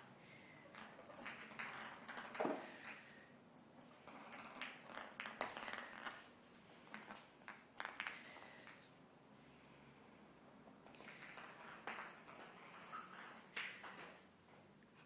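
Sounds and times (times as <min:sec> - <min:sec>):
bauble rattling on tile floor: 0:00.0 - 0:03.2, 0:03.8 - 0:08.9, 0:10.8 - 0:14.7.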